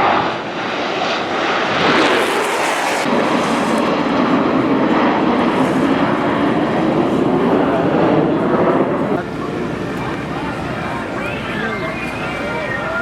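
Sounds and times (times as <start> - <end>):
airplane engine running: 0.0 - 13.0.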